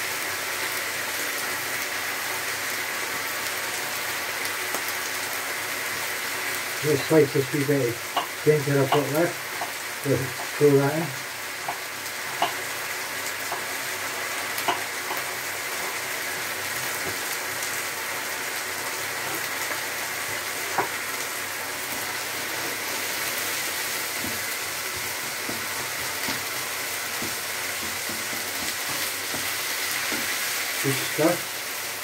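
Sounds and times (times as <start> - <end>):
vegetables sizzling in a frying pan: 0.0 - 32.0.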